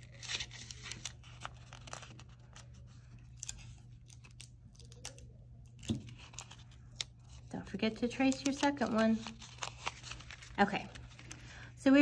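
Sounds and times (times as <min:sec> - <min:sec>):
paper rustling and crinkling: 0:00.0 - 0:11.6.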